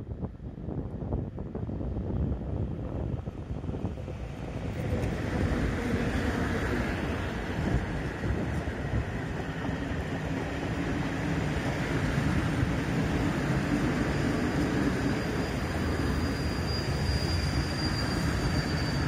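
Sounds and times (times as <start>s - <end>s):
electric locomotive passing: 1.3s - 19.0s
freight wagons rumbling on rails: 1.3s - 19.0s.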